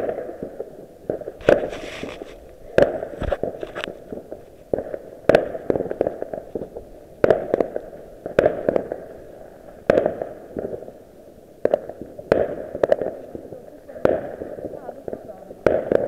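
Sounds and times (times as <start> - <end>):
fireworks bangs: 0.0 - 16.0
small fireworks pops: 0.0 - 16.0.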